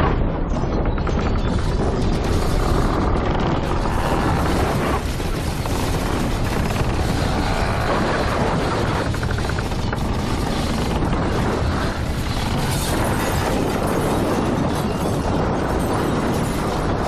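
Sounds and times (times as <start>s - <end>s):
deep earthquake rumbling: 0.0s - 17.0s.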